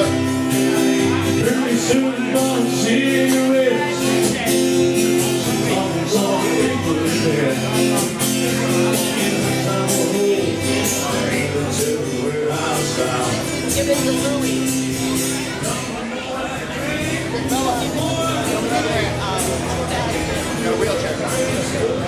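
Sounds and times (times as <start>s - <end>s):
person singing: 0.0s - 14.6s, 15.4s - 22.0s
band music with guitar: 0.0s - 22.0s.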